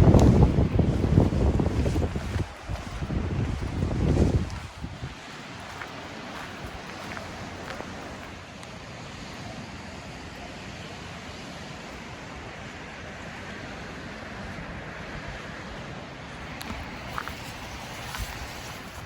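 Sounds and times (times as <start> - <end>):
ocean surf rushing: 0.0 - 19.0
wind: 0.0 - 19.0.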